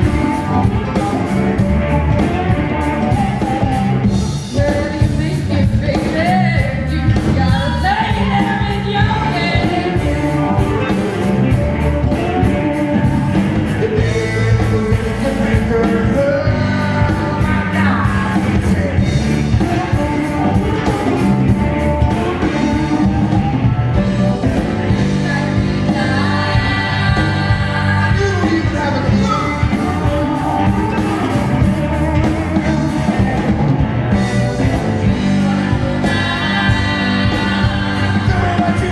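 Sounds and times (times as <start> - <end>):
person singing: 0.0 - 38.9
rock band playing: 0.0 - 38.9.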